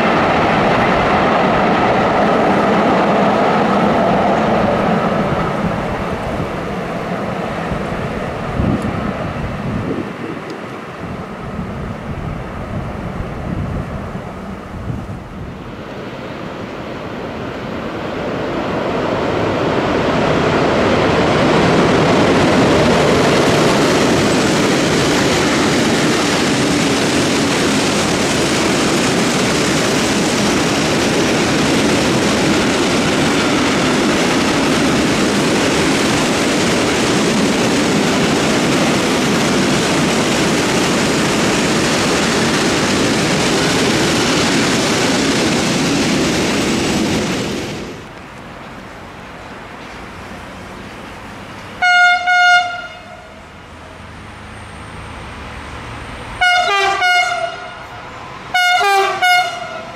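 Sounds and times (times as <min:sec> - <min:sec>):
train wheels rolling on rails: 0:00.0 - 0:59.9.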